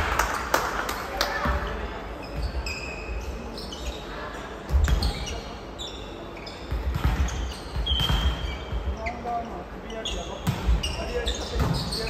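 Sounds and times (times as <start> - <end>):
athletic shoes squeaking: 2.1 - 12.0.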